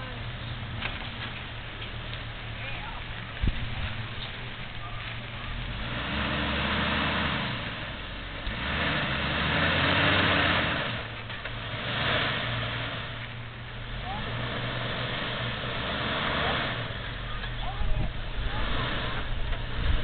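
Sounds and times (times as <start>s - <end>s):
car engine revving at low speed: 3.2s - 20.0s.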